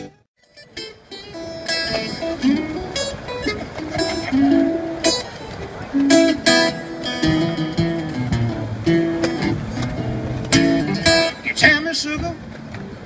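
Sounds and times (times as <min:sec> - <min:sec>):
acoustic blues guitar: 0:00.0 - 0:13.0.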